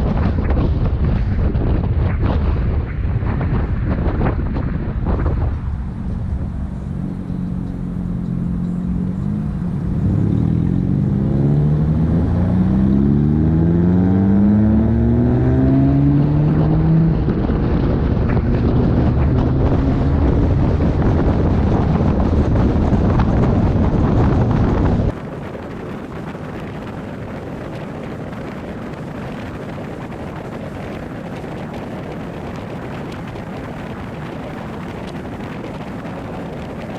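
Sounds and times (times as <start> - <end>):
road and wind noise: 0.0 - 36.9
car engine accelerating: 4.5 - 36.9.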